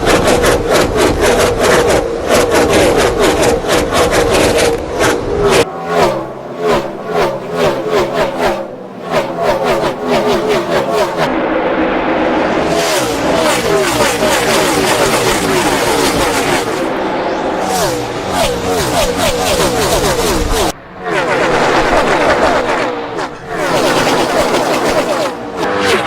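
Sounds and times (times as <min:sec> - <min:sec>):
race car engines passing by: 0:00.0 - 0:26.0.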